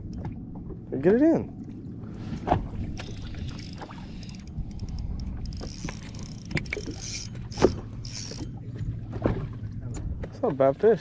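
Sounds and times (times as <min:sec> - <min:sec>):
fishing boat engine rumble: 0:00.0 - 0:11.0.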